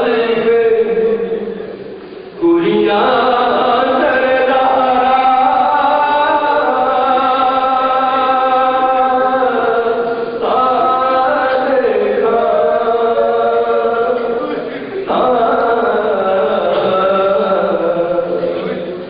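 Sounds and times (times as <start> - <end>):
man singing a mourning lament: 0.0 - 1.8, 2.4 - 19.0.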